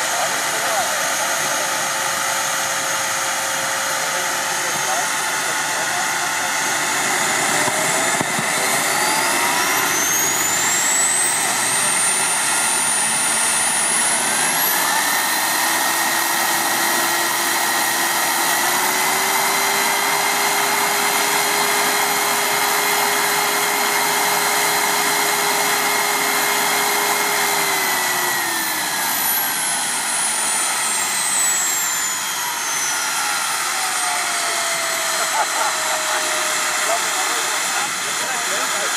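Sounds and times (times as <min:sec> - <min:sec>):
model turbine engine whine: 0:00.0 - 0:38.9.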